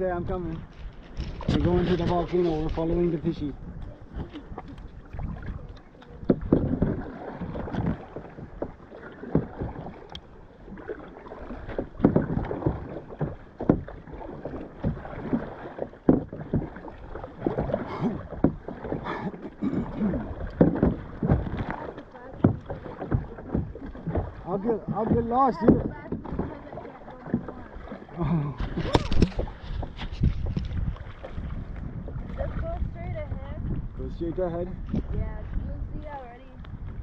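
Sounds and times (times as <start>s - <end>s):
paddle splashing water: 0.0s - 37.0s.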